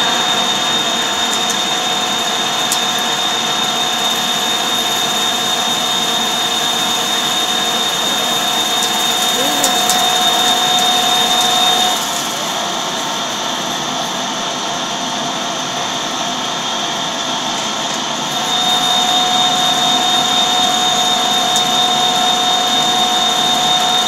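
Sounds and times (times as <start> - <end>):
high machining whine: 0.0 - 24.0
metal lathe machining steel: 0.0 - 24.0.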